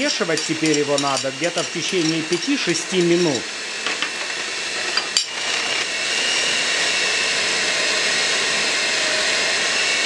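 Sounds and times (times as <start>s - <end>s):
electric mixer kneading dough: 0.0s - 10.0s.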